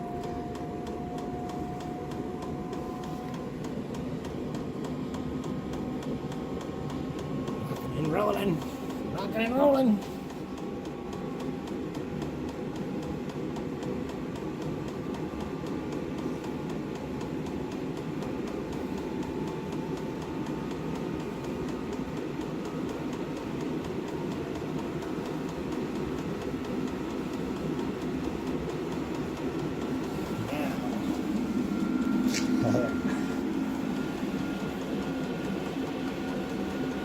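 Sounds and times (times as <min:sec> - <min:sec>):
air heater combustion and fan rush: 0:00.0 - 0:37.0
faint fan whine: 0:00.0 - 0:37.0.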